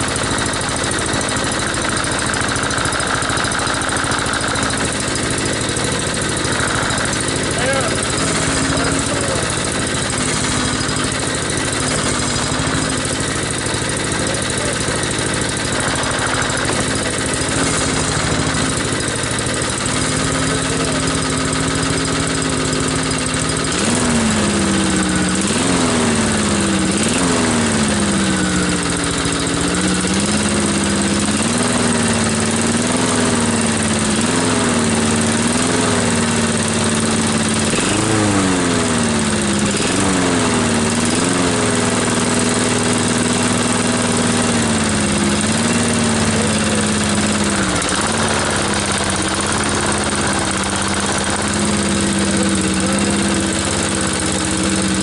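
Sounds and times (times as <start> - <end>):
lawn mower engine revving: 0.0 - 55.0.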